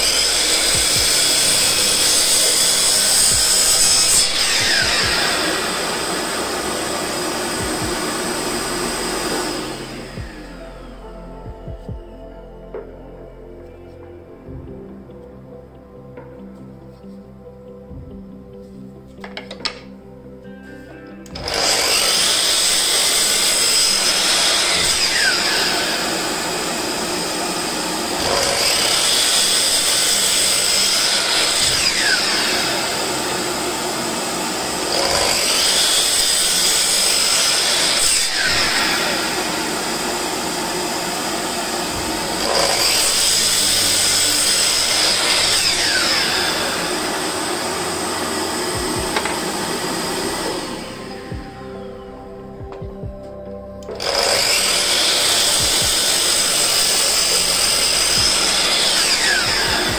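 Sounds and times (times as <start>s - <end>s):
miter saw cutting wood: 0.0s - 12.0s, 21.3s - 52.0s, 53.8s - 59.9s.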